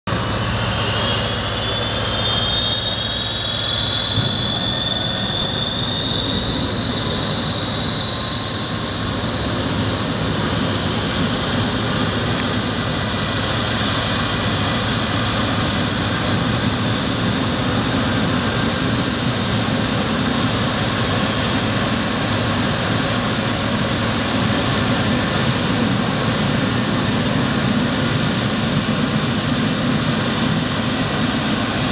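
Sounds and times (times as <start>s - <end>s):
jet engine starting up: 0.1s - 31.9s.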